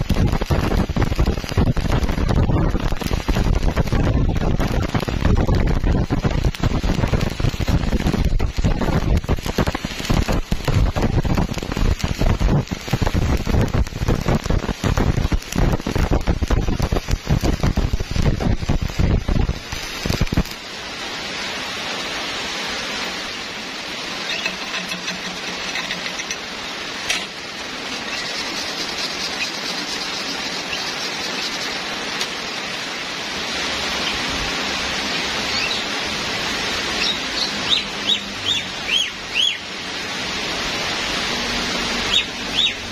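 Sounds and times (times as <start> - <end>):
steady hiss: 0.0 - 42.9
welding arc crackling and sputtering: 0.0 - 42.9.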